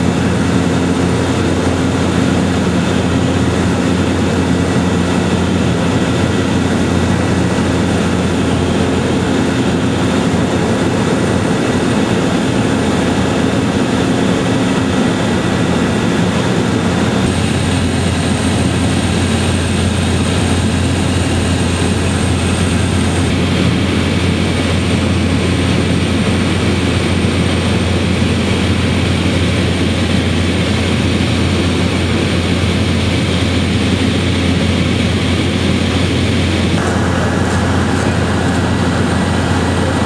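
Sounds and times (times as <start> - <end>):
engine drone: 0.0 - 40.0.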